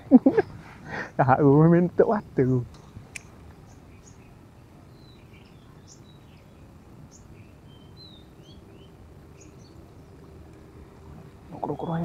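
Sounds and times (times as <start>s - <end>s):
birds chirping faintly: 0.0s - 12.0s
low background noise: 0.0s - 12.0s.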